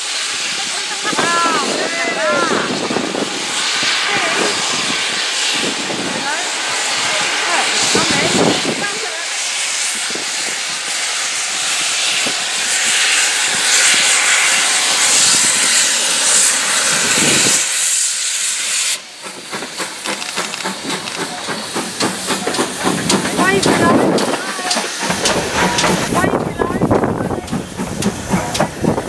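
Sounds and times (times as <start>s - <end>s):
loud steam hiss: 0.0s - 29.0s
steam locomotive rhythmic beats: 2.7s - 29.0s.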